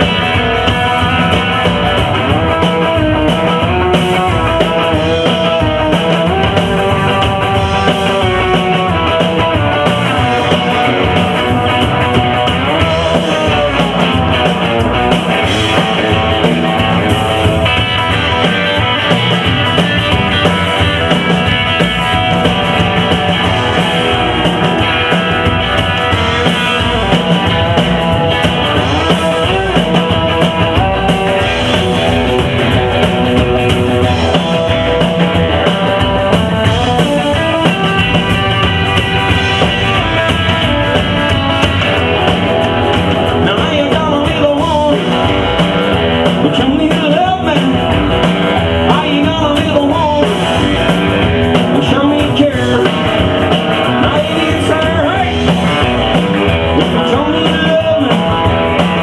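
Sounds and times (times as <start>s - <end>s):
rockabilly band playing: 0.0s - 59.0s.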